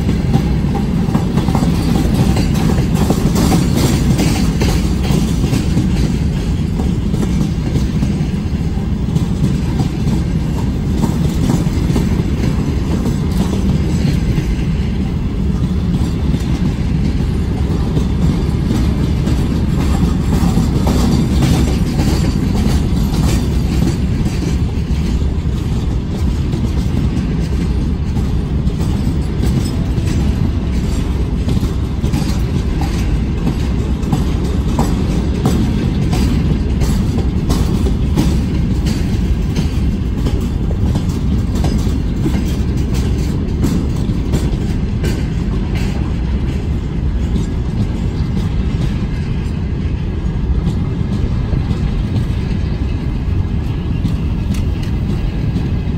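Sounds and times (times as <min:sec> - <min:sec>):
train wagons rumbling: 0:00.0 - 0:55.9
wheels clacking over rail joints: 0:00.0 - 0:55.9.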